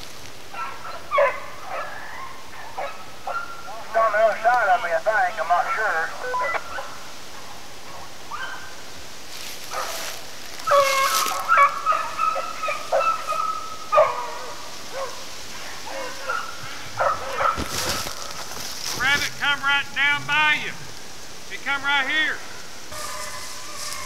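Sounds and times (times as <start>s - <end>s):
distant beagles baying and yelping: 0.5s - 21.0s, 22.3s - 24.0s.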